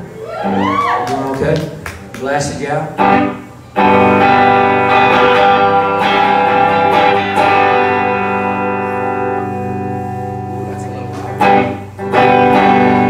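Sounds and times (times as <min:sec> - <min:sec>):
electric guitars strumming chords: 0:01.3 - 0:13.0.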